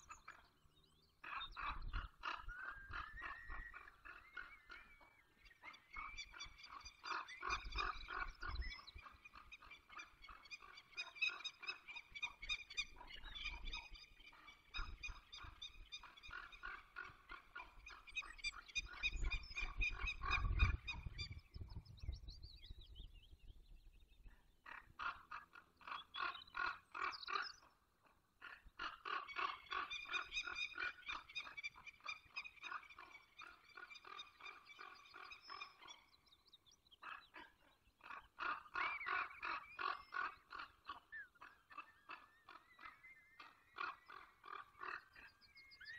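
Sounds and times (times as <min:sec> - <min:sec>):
falcon chicks calling: 0:00.0 - 0:00.6, 0:01.2 - 0:22.9, 0:24.6 - 0:45.9.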